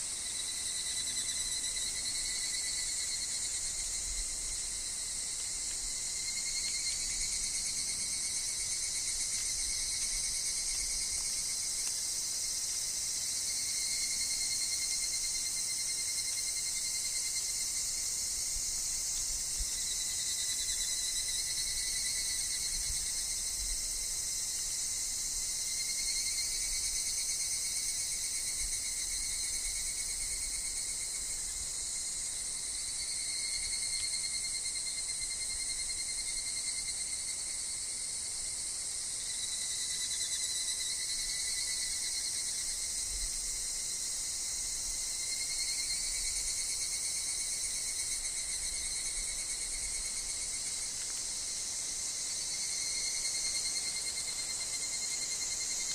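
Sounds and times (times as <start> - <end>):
evening cicadas calling: 0.0 - 55.9
high-pitched insect chorus: 0.0 - 55.9.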